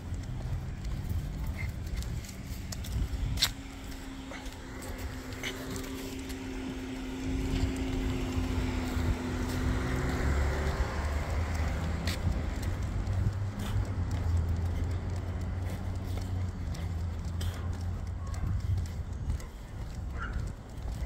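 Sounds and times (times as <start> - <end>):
vehicle engine and tyre noise: 0.0 - 21.0.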